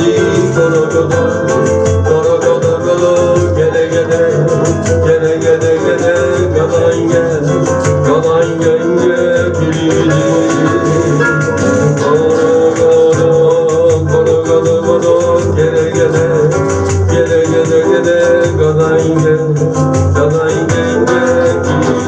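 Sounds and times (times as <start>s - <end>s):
bossa nova band playing: 0.0s - 22.0s
person singing: 0.0s - 22.0s
ticking percussion rhythm: 0.0s - 22.0s.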